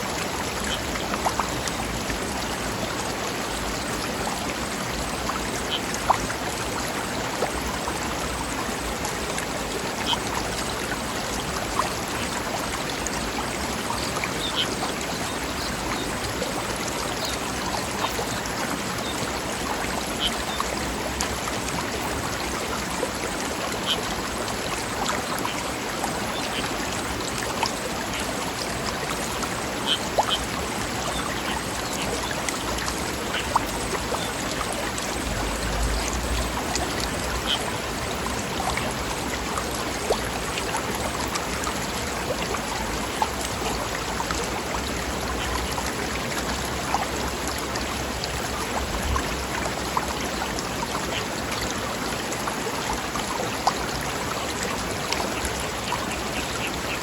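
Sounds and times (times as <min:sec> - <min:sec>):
river running over rocks: 0:00.0 - 0:57.0
small water splashes: 0:00.0 - 0:57.0.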